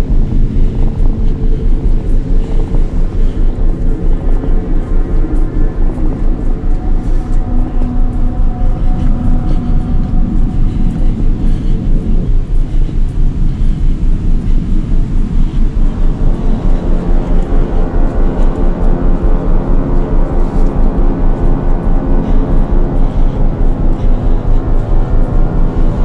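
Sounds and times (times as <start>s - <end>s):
dark droning synth pad: 0.0s - 26.0s
pulsing bass: 0.0s - 26.0s.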